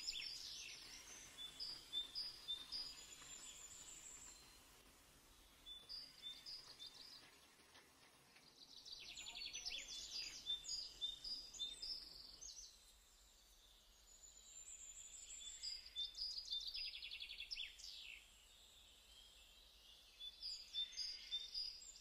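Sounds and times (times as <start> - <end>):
small birds chirping and trilling: 0.0 - 22.0.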